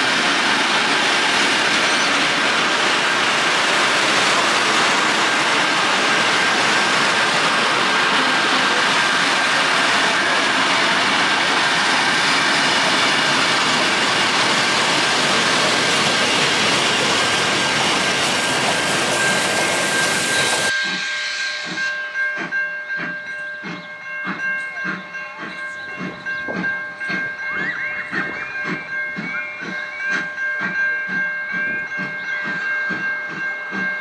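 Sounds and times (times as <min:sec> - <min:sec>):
level crossing bells ringing: 0:00.0 - 0:34.0
train carriages rushing past: 0:00.0 - 0:34.0.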